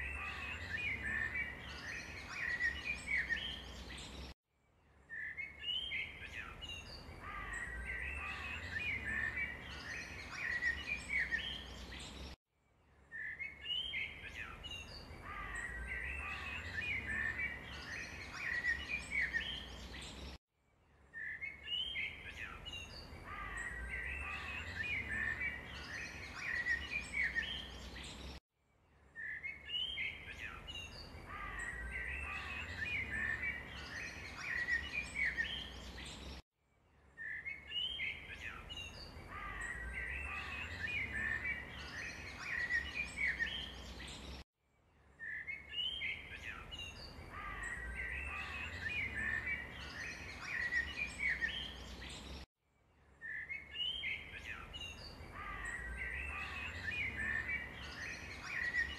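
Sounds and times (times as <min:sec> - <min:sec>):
small birds chirping and trilling: 0:00.0 - 0:12.4, 0:13.0 - 0:28.4, 0:29.0 - 0:36.4, 0:37.0 - 0:44.4, 0:45.0 - 0:52.5, 0:53.1 - 0:58.9.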